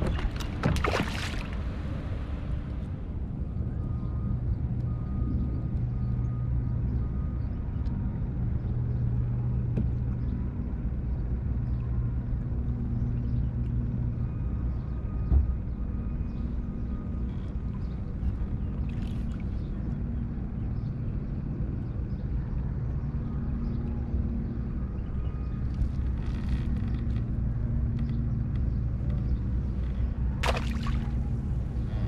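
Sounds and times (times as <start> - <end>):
steady low motor hum: 0.0 - 32.0.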